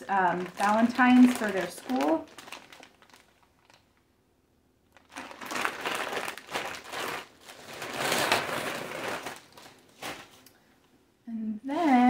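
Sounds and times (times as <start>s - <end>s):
plastic bag rustling: 0.0s - 4.1s, 4.9s - 10.5s.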